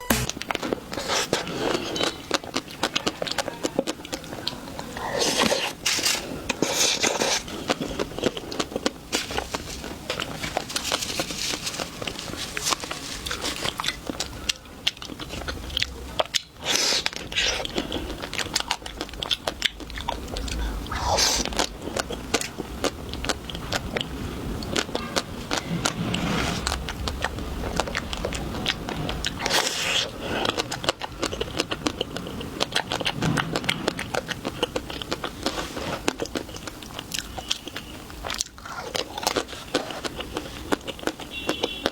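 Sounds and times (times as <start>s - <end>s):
crunching chocolate: 0.3s - 41.9s
wet mouth clicks: 0.4s - 41.9s.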